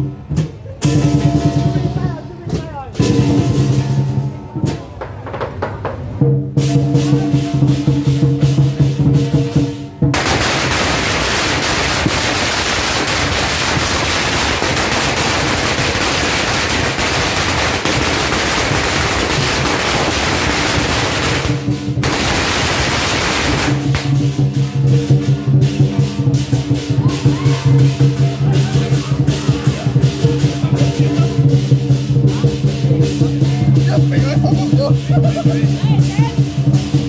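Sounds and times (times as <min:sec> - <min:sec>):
firecrackers crackling: 0:00.0 - 0:06.2, 0:06.8 - 0:37.0
lion dance percussion: 0:00.0 - 0:37.0.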